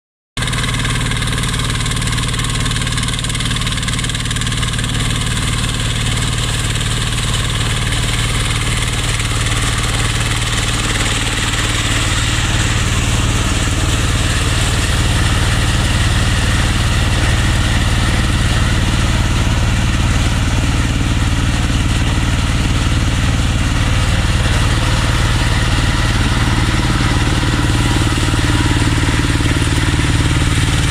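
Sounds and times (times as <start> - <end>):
rush of harvester machinery: 0.4 - 30.9
small engine running: 0.4 - 30.9.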